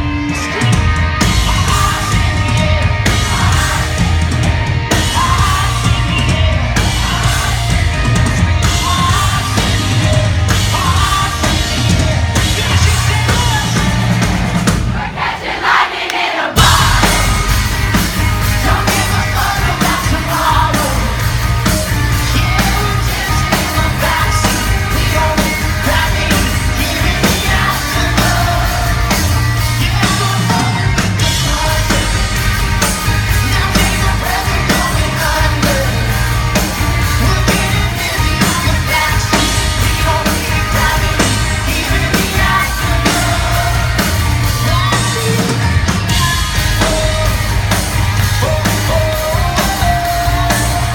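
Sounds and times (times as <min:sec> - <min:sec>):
guitars: 0:00.0 - 0:15.1, 0:16.6 - 0:50.9
drums: 0:00.0 - 0:50.9
person singing lead vocal: 0:00.0 - 0:50.9.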